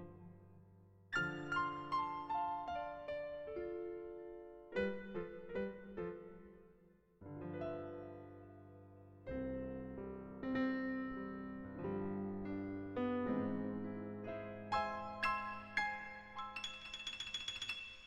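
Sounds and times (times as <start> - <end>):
slow solo piano: 0.0 - 16.9.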